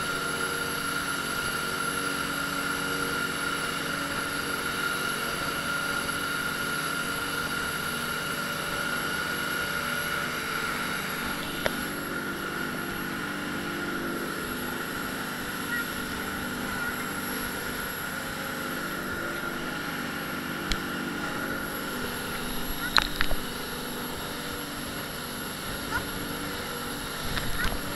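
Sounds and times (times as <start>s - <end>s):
motorboat engine whining: 0.0s - 27.9s.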